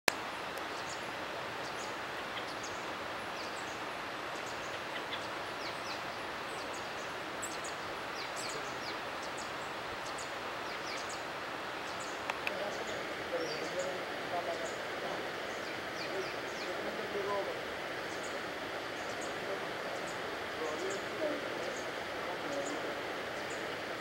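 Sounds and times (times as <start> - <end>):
forest ambience hiss: 0.1 - 24.0
bird chirps and calls: 1.6 - 23.8.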